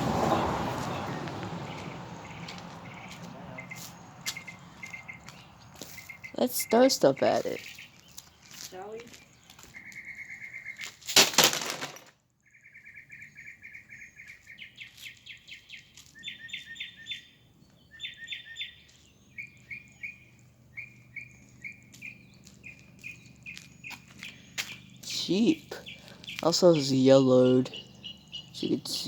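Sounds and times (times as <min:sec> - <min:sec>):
songbird chirping: 0:00.0 - 0:11.1, 0:12.2 - 0:29.0.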